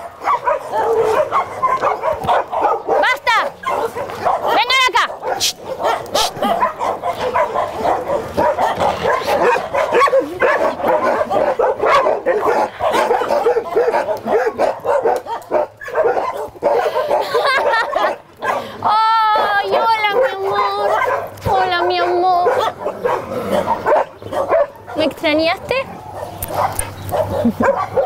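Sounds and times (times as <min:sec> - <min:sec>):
pack of dogs barking: 0:00.0 - 0:28.0.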